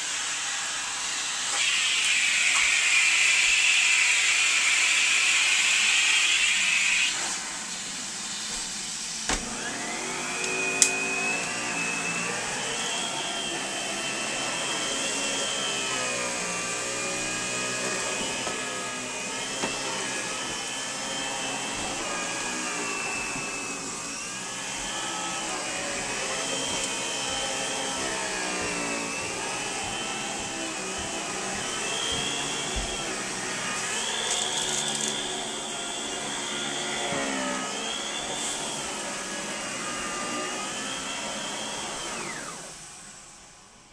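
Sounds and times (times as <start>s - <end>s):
vacuum motor hum: 0.0s - 43.4s.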